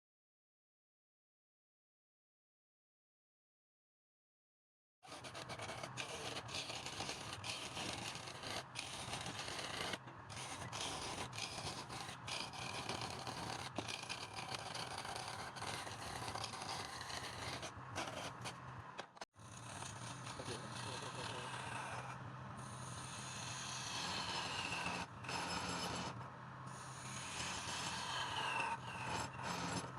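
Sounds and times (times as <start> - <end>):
tool scraping wood on lathe: 5.1 - 29.9.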